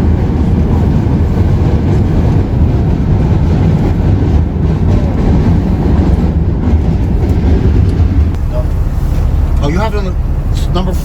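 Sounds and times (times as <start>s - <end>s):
bus rumbling in traffic: 0.0s - 11.0s.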